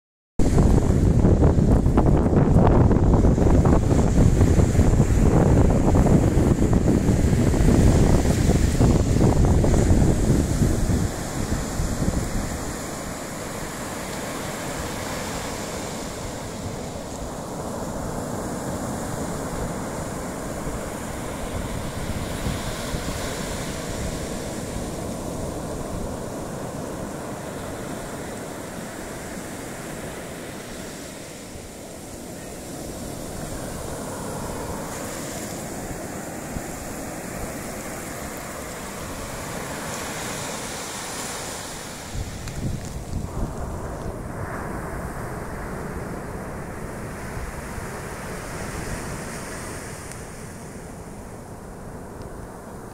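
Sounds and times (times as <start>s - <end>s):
surf washing up beach: 0.4s - 52.9s
wind on microphone: 0.4s - 52.9s.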